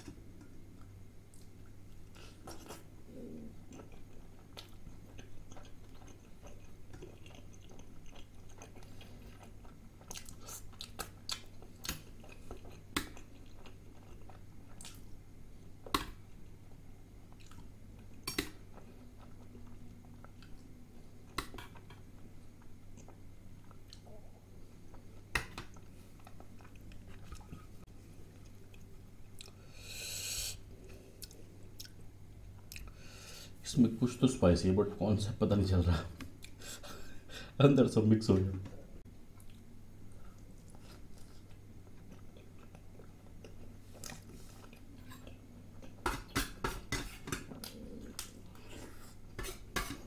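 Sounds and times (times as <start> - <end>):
person chewing: 0.0 - 15.2, 17.3 - 33.0, 39.4 - 50.0.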